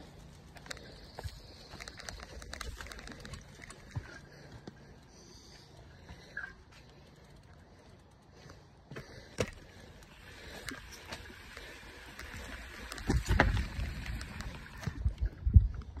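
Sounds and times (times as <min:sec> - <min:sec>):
bike clicks and rattles: 0:00.0 - 0:16.0
bike tyres on dirt: 0:00.0 - 0:16.0.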